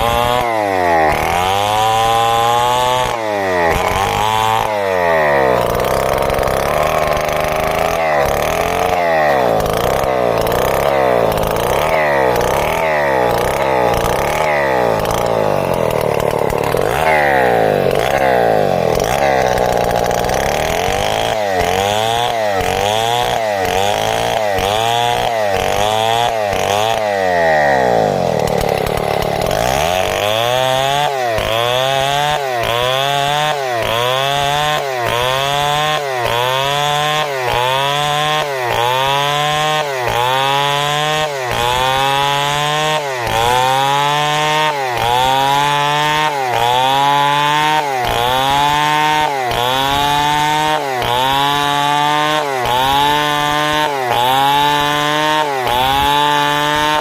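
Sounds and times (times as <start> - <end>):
chainsaw sawing timber: 0.0 - 57.0.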